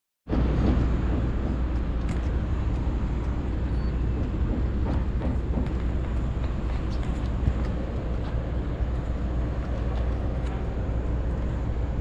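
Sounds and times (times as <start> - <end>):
low outdoor rumble: 0.3 - 12.0.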